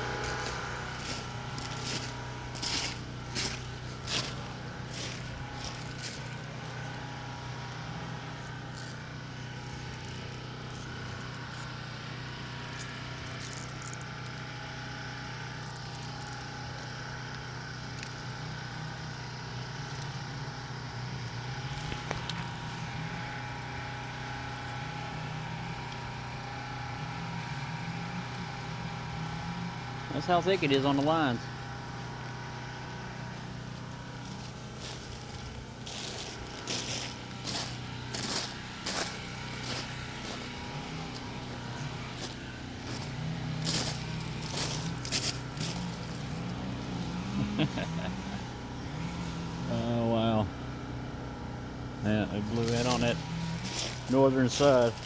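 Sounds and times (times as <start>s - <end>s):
small generator engine running: 0.0s - 55.0s.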